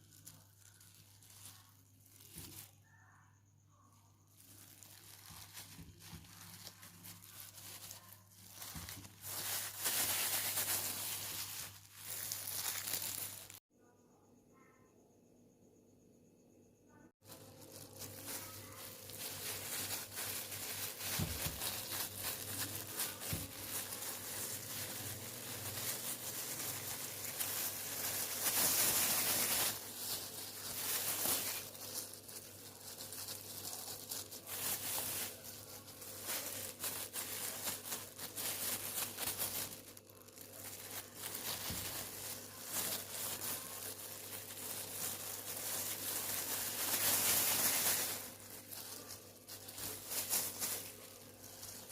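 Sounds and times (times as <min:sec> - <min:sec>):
rustling and crinkling handling: 0:00.0 - 0:02.8, 0:04.3 - 0:13.7, 0:17.2 - 0:51.9.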